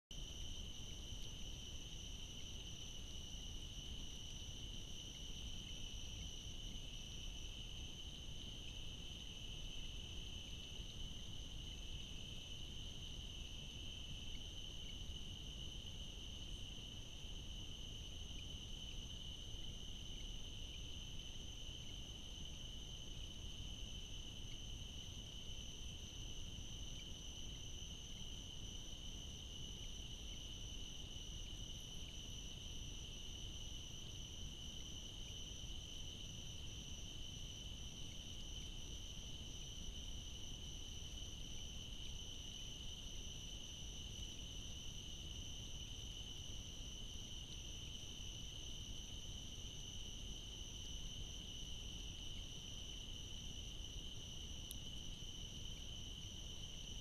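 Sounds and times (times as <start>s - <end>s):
crickets trilling: 0.2s - 57.0s
low background hiss: 0.2s - 57.0s.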